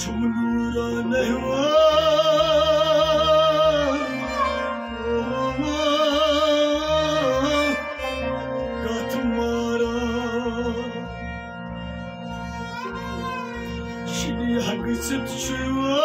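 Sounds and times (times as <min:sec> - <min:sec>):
harmonium drone: 0:00.0 - 0:16.0.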